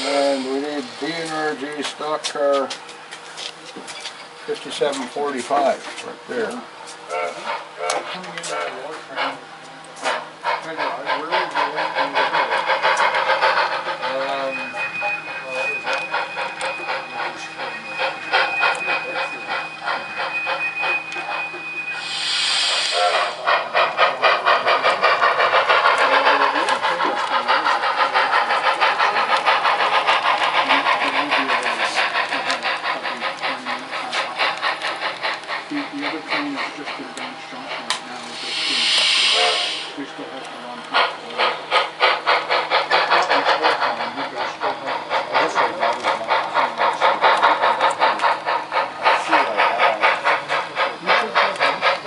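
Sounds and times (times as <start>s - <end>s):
steady steam hiss: 0.0s - 3.7s, 4.3s - 52.0s
model steam locomotive chuffing: 0.0s - 52.0s.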